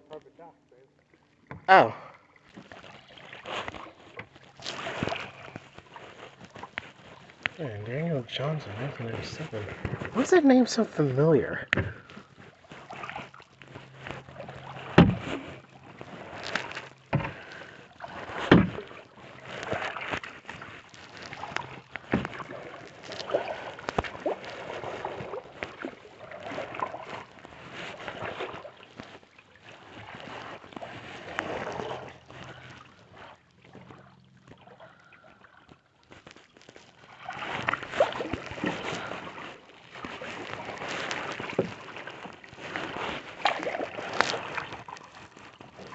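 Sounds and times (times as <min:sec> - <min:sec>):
kayak paddle splashing in water: 0:01.1 - 0:07.9, 0:08.5 - 0:45.9.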